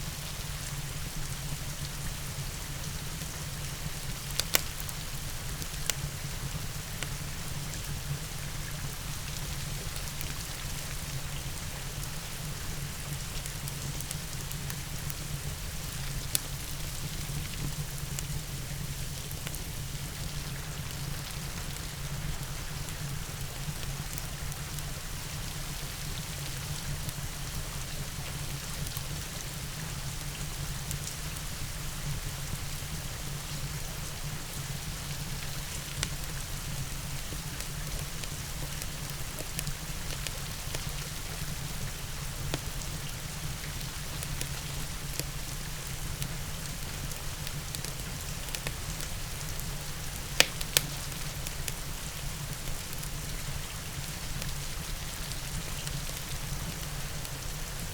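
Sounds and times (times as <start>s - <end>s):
fire crackles: 0.0s - 57.9s
steady rain: 0.0s - 57.9s
fireplace burning: 0.5s - 31.8s, 34.6s - 57.9s.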